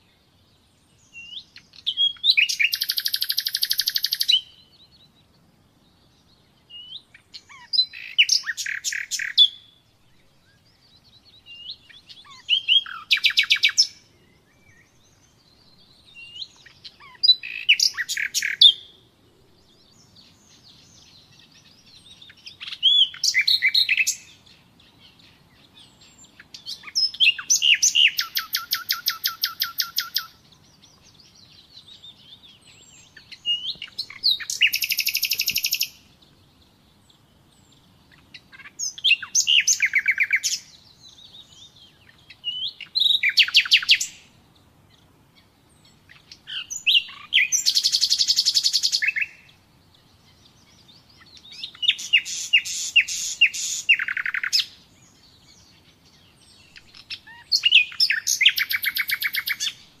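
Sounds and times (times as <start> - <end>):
nightingale singing: 0.0 - 60.0.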